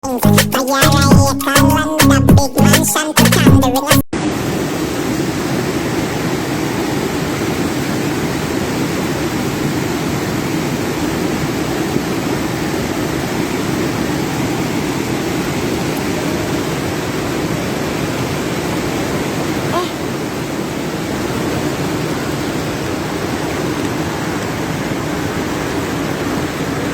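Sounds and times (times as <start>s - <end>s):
flooded river rushing: 4.2s - 26.9s.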